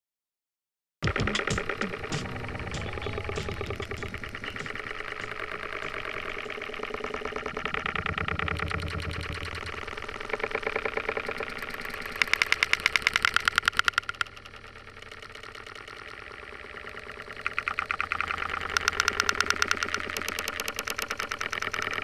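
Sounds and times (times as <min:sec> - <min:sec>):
loud rapid clicking: 0:01.0 - 0:22.0
outboard motor running: 0:01.1 - 0:22.0.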